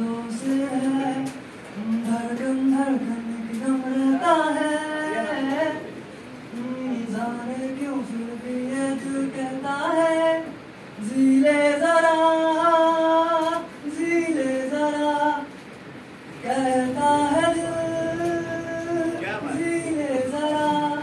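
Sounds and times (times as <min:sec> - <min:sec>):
person singing unaccompanied: 0:00.0 - 0:15.6, 0:16.3 - 0:21.0.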